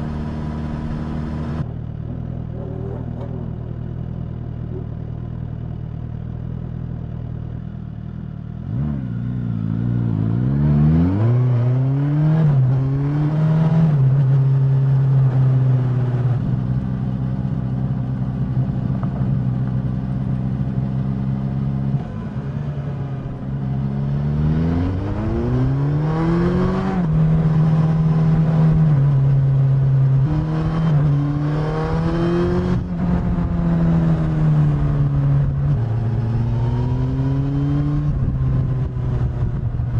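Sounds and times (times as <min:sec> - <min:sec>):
motorcycle engine revving: 0:00.0 - 0:01.6, 0:08.6 - 0:17.7, 0:18.3 - 0:39.9.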